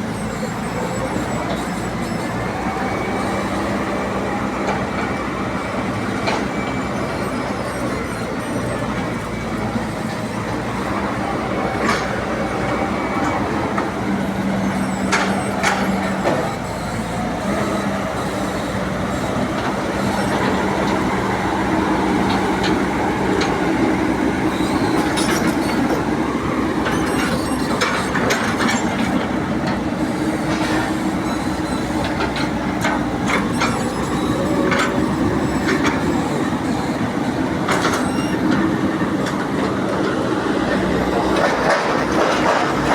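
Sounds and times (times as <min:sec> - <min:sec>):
diesel engines running: 0:00.0 - 0:42.9.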